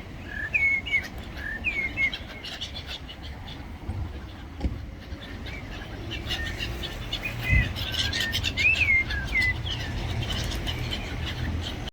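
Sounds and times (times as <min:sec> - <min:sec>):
seagulls calling: 0:00.0 - 0:11.9.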